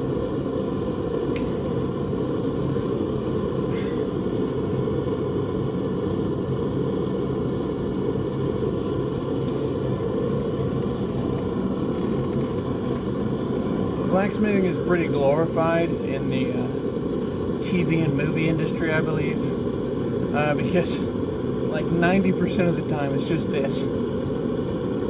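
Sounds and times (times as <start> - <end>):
forge burner rushing: 0.0 - 25.0.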